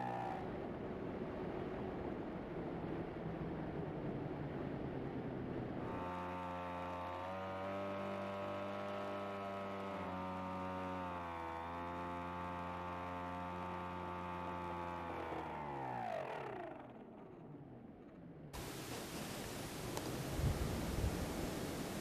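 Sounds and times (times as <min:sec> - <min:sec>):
drone motor and propeller whine: 0:00.0 - 0:22.0.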